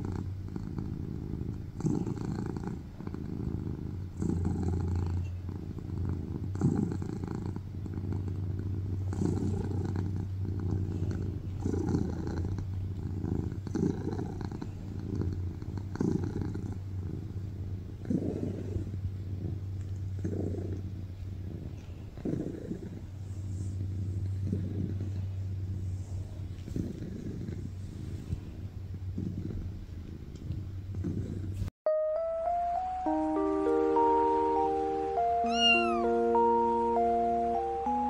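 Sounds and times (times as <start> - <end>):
cat purring loudly: 0.0 - 31.7.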